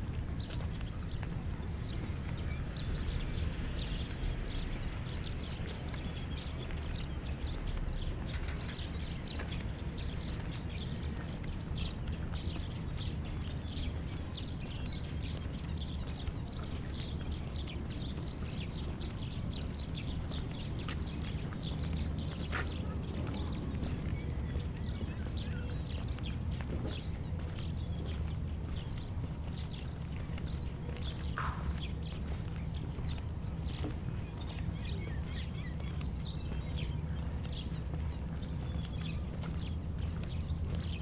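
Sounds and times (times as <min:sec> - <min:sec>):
low outdoor rumble: 0:00.0 - 0:41.0
small birds chirping: 0:00.0 - 0:41.0.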